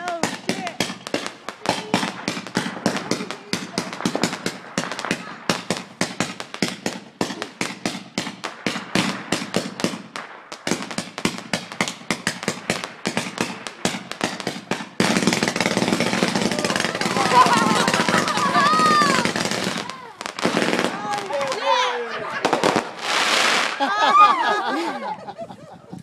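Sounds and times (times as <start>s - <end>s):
fireworks banging and crackling: 0.0s - 26.0s.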